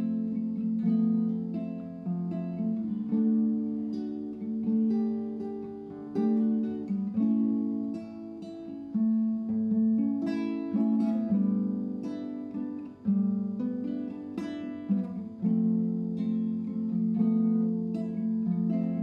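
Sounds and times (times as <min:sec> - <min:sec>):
acoustic guitar plucked: 0:00.0 - 0:19.0.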